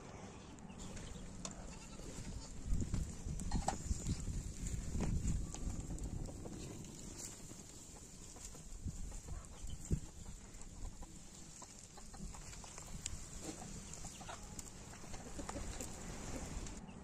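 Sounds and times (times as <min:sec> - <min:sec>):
chickens clucking: 0:00.6 - 0:17.0.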